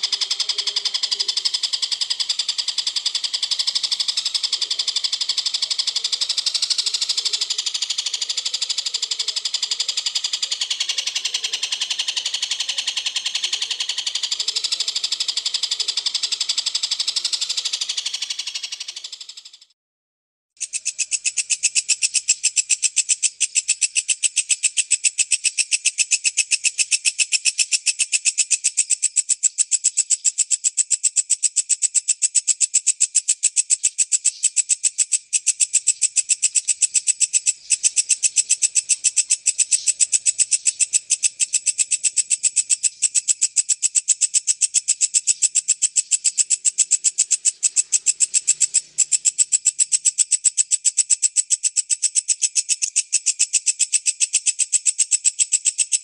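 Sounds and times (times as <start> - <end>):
insect stridulating: 0.0 - 19.7, 20.6 - 56.0.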